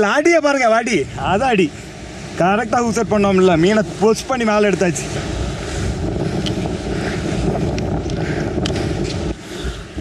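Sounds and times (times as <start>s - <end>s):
wind buffeting microphone: 0.0s - 10.0s
low rumble: 0.9s - 10.0s.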